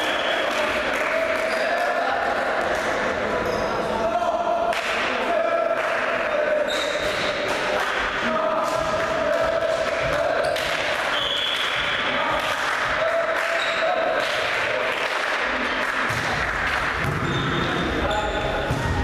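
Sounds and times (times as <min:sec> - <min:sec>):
voices and chanting: 0:00.0 - 0:19.0.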